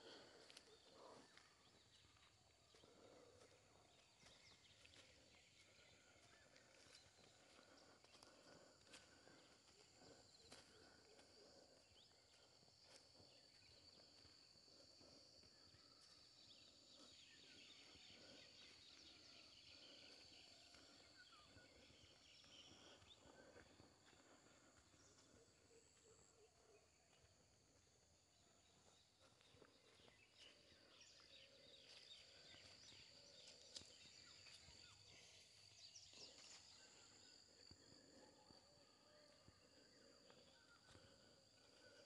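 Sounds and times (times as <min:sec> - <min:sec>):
faint outdoor ambience: 0:00.0 - 0:42.0.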